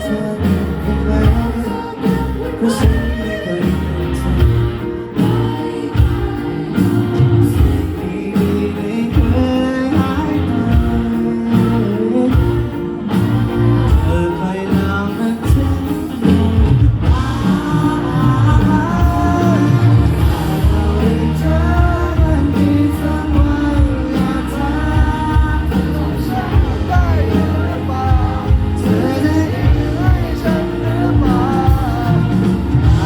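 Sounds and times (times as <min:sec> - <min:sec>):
bass guitar: 0:00.0 - 0:33.0
drums: 0:00.0 - 0:33.0
guitars: 0:00.0 - 0:33.0
person singing: 0:00.0 - 0:33.0.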